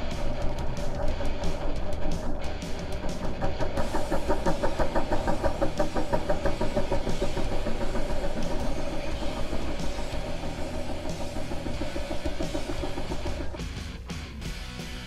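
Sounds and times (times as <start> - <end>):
three-wheeler engine under throttle: 0.0 - 13.6.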